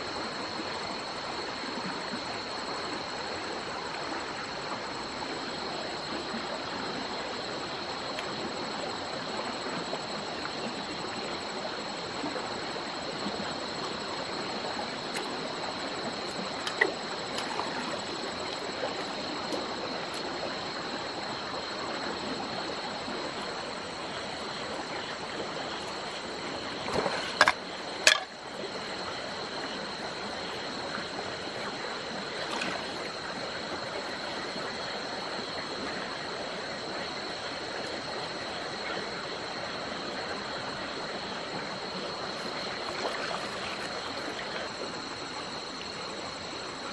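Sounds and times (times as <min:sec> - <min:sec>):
crickets droning: 0:00.0 - 0:46.9
stream running over rocks: 0:00.0 - 0:46.9.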